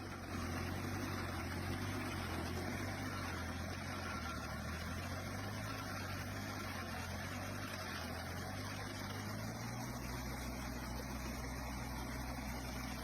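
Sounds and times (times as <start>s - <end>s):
stump grinder engine running: 0.0s - 13.0s.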